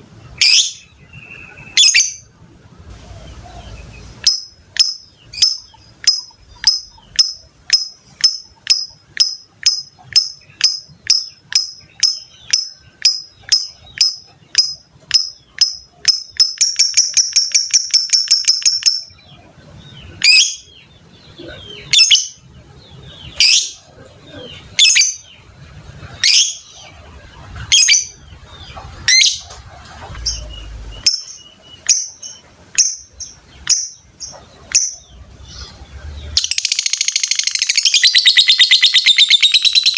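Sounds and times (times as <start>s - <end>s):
lovebird chirping and trilling: 0.3s - 2.3s, 3.3s - 25.4s, 26.1s - 39.9s.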